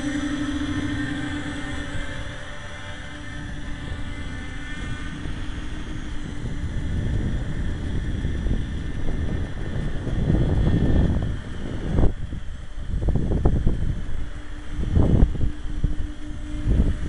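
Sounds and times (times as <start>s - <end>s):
drone propellers humming: 0.0s - 17.0s
wind buffeting microphone: 0.0s - 17.0s.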